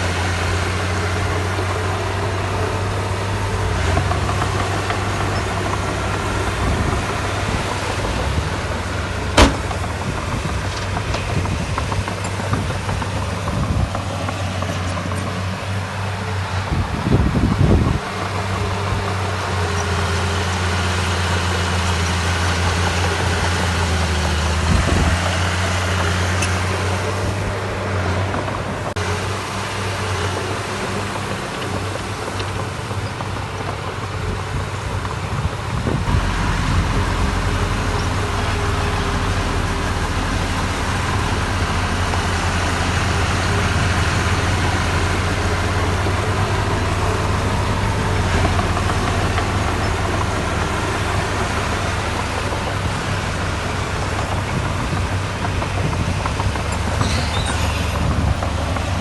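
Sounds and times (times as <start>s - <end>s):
deeper engine note: 0.0s - 59.0s
diesel machinery engine drone: 0.0s - 59.0s.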